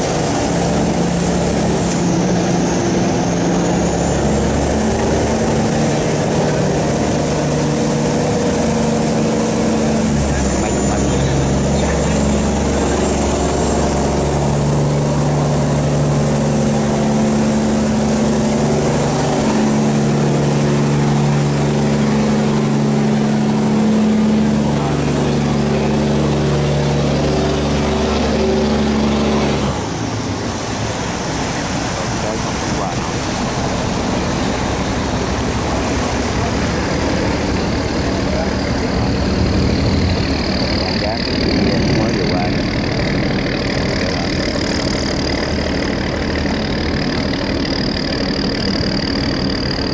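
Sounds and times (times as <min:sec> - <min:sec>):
barge diesel engine running: 0:00.0 - 0:49.9
water churning along hull: 0:00.0 - 0:49.9.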